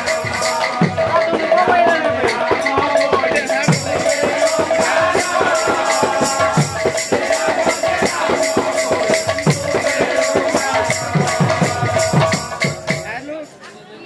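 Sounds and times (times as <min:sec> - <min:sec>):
jingling percussion beat: 0:00.0 - 0:13.7.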